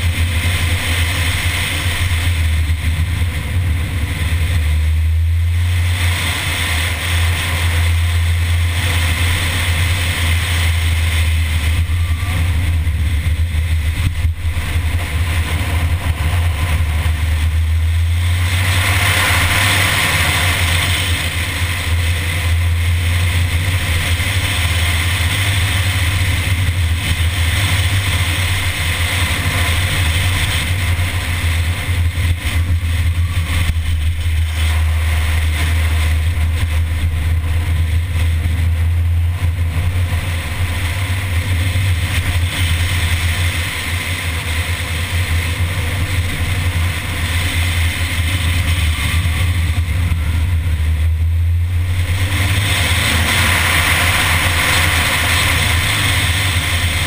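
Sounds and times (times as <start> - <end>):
car engine running: 0.0 - 57.0
wind rush on microphone: 0.0 - 57.0.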